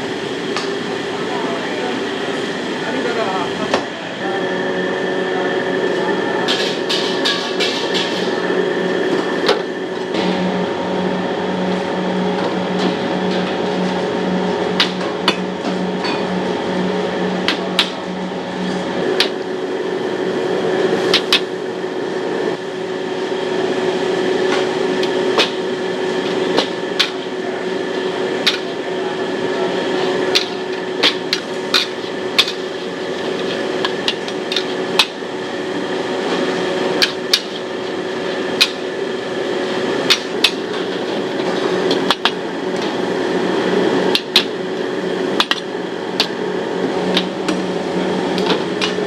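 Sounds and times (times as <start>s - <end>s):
burner and fan hum: 0.0s - 49.0s.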